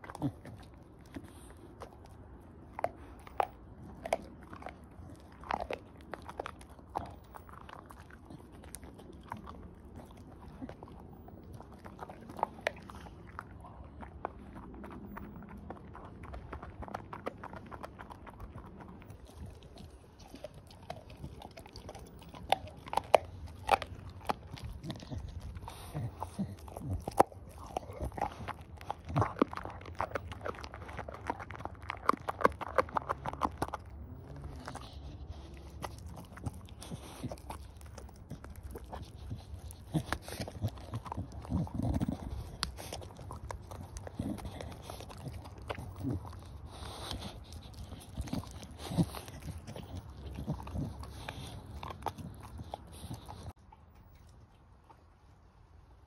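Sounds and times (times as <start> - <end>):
dog gnawing on bone: 0.0 - 55.1.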